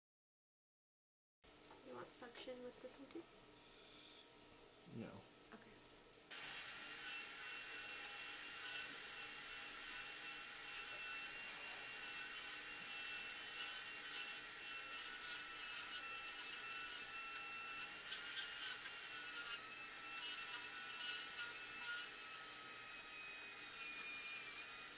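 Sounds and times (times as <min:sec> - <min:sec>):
dental drill whining: 0:01.5 - 0:05.2, 0:06.3 - 0:24.9.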